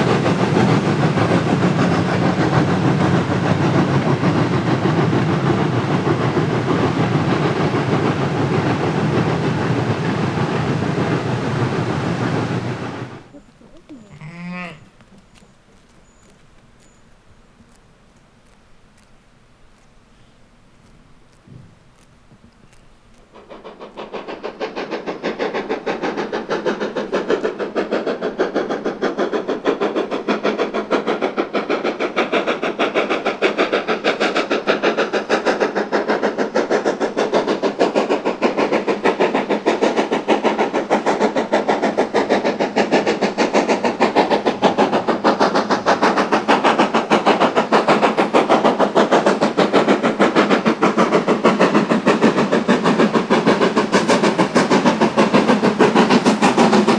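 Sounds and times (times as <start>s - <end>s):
steam locomotive pulsing beat: 0.0s - 14.0s, 23.2s - 56.9s.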